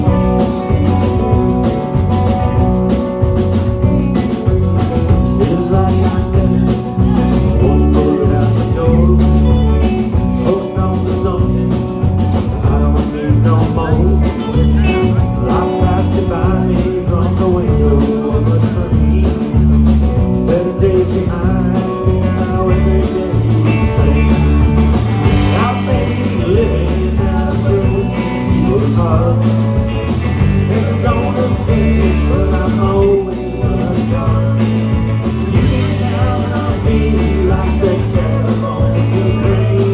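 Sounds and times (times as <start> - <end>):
live country-rock band playing: 0.0 - 39.9.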